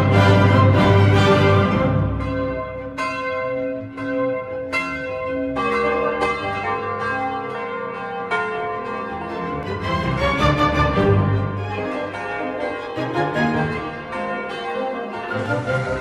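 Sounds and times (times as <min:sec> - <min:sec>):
church bells tolling: 0:00.0 - 0:16.0.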